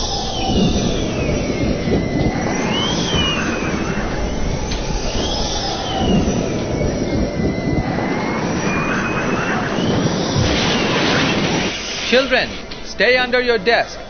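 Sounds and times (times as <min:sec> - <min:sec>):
loud roaring wind: 0:00.0 - 0:14.0
whistling howl of wind: 0:00.0 - 0:14.0.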